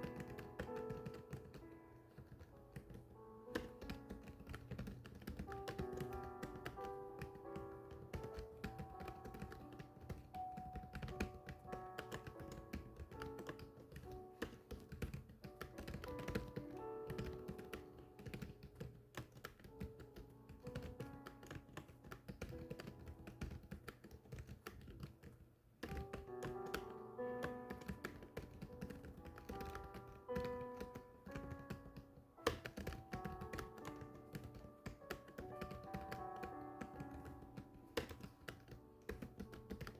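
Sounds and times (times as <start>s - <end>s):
melodic background music: 0.0s - 23.6s, 25.9s - 39.9s
fast keyboard typing: 0.0s - 39.9s.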